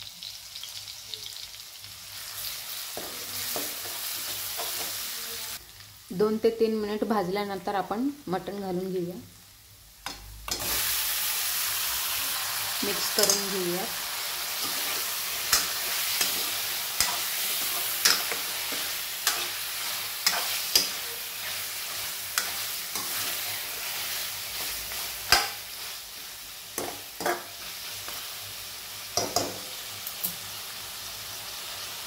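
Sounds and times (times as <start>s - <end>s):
meat sizzling in hot oil: 0.0s - 8.1s, 9.3s - 32.0s.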